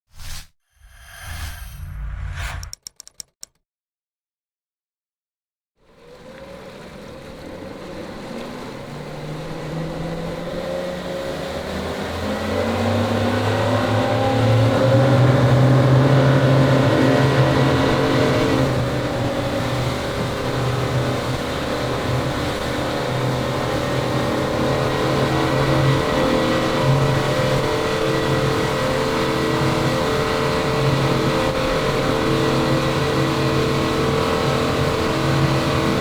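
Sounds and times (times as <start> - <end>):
boat engines running at high speed: 5.8 - 36.0.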